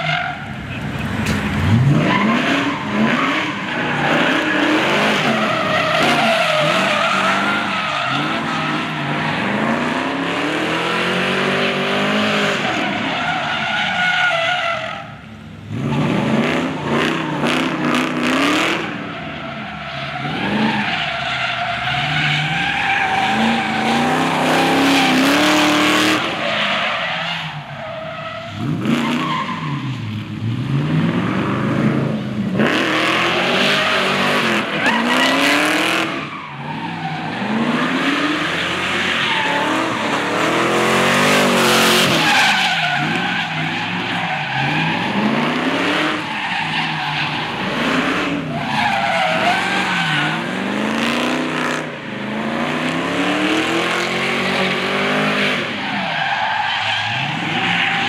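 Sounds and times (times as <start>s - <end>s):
car engine revving: 0.0s - 13.8s, 15.1s - 27.5s, 28.4s - 58.0s
tyres screeching on asphalt: 0.0s - 58.0s.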